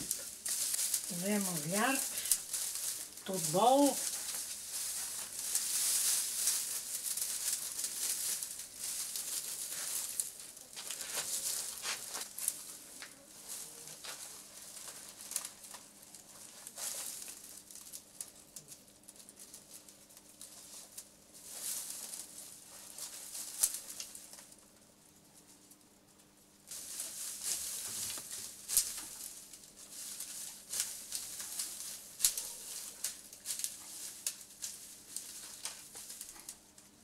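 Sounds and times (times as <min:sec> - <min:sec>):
dry twigs rustling and snapping: 0:00.0 - 0:25.8, 0:26.6 - 0:37.0
faint steady hum: 0:00.0 - 0:37.0.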